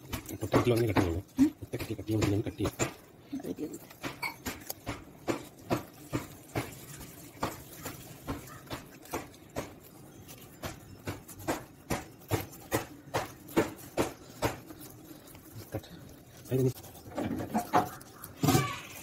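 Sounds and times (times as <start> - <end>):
knife slicing meat: 0.0 - 19.0.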